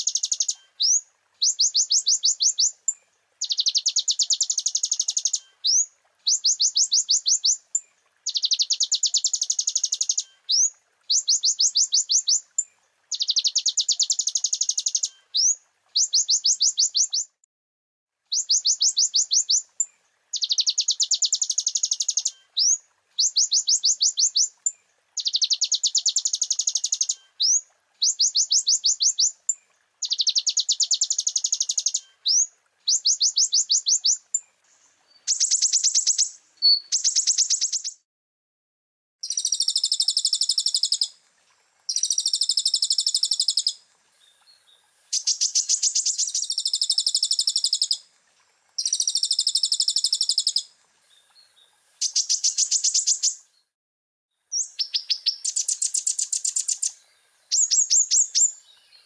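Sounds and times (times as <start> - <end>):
sunbird singing trills: 0.0 - 17.4, 18.3 - 29.4, 30.0 - 38.0, 39.2 - 41.2, 41.9 - 48.0, 48.8 - 53.5, 54.5 - 59.0
upswept bird chirps: 0.0 - 17.4, 18.3 - 38.0, 39.2 - 41.2, 41.9 - 48.0, 48.8 - 53.7, 54.5 - 59.0.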